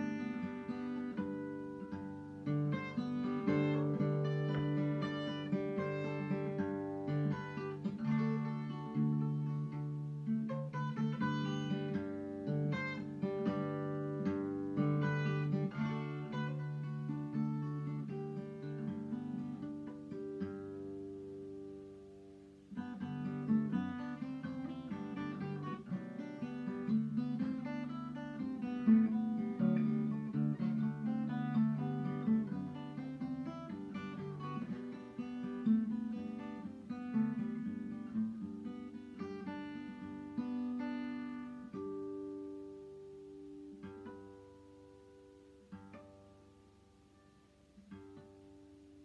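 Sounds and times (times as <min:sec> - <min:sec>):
fingerstyle acoustic guitar: 0:00.0 - 0:49.0.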